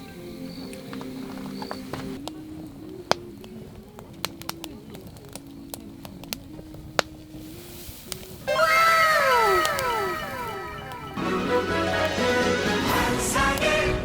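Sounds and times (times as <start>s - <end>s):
campfire crackling and popping: 0.0s - 14.0s
soft background music: 0.0s - 14.0s.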